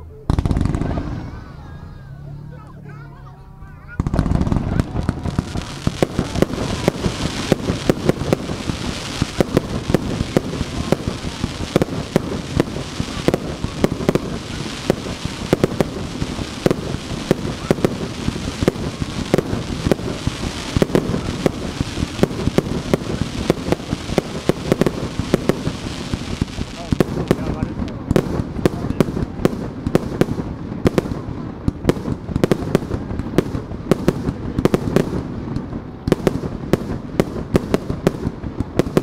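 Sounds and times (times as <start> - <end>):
fireworks crackling hiss: 0.2 - 39.0
fireworks launch thuds and bangs: 0.3 - 1.6, 3.9 - 39.0.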